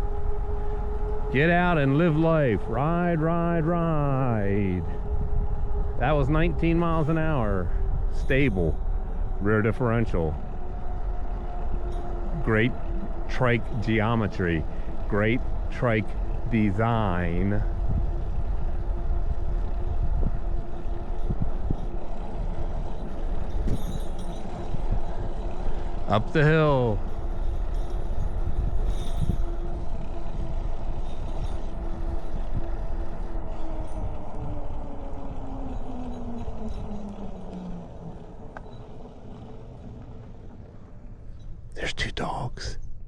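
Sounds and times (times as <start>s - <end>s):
electric motor whine: 0.0s - 41.2s
wind buffeting microphone: 0.0s - 41.7s
faint steady hum: 0.0s - 43.0s
low rumble of riding noise: 0.0s - 43.0s.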